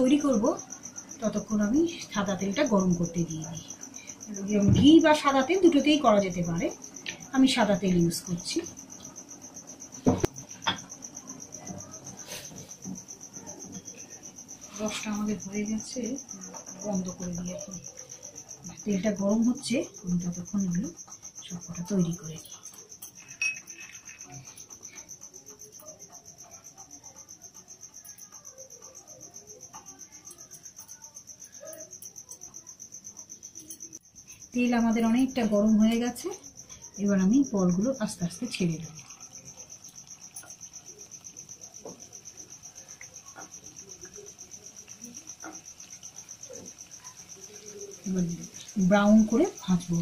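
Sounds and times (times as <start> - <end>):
cricket chirping: 0.0 - 50.0
insect trill: 0.0 - 50.0.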